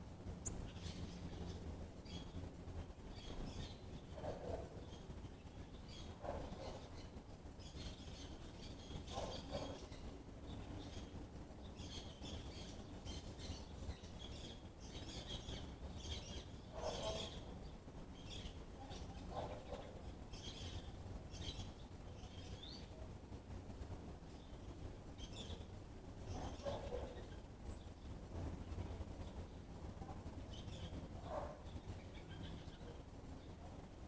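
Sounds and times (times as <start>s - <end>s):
birds chirping: 0.3s - 34.0s.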